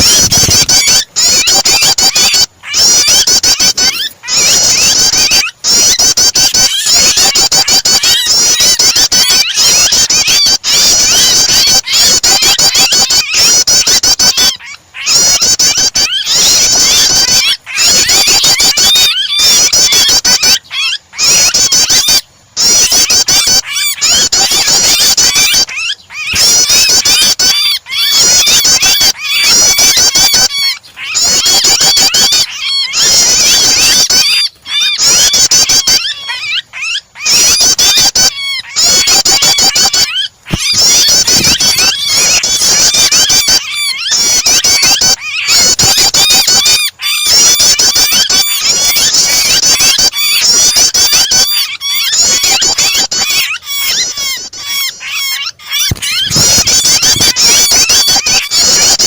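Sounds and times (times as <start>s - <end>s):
bird chattering: 0.0s - 59.0s
trapped bird crying: 0.0s - 59.0s.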